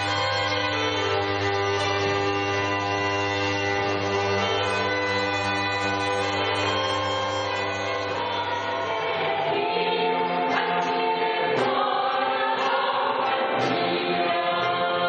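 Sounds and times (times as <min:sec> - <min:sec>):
medieval music ensemble: 0:00.0 - 0:15.0
singing voices: 0:00.0 - 0:15.0.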